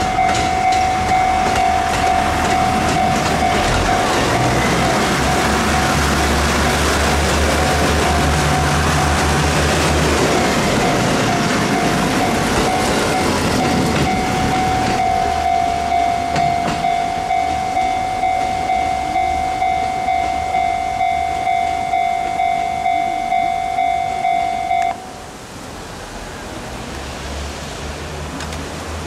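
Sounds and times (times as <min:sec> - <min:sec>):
level crossing warning bell: 0:00.0 - 0:25.2
train running noise: 0:00.0 - 0:25.6.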